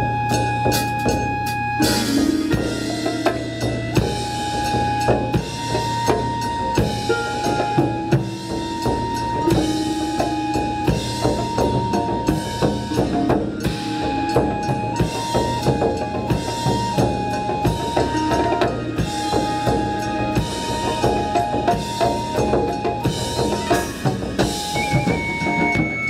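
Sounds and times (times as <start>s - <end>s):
melody of long held notes: 0.0s - 26.0s
taiko drums playing: 0.0s - 26.0s.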